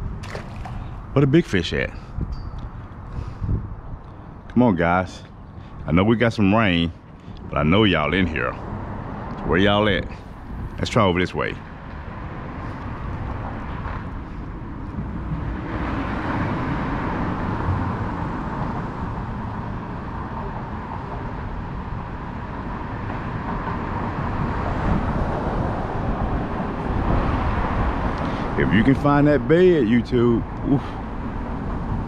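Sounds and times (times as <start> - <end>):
road traffic roar: 0.0 - 32.0.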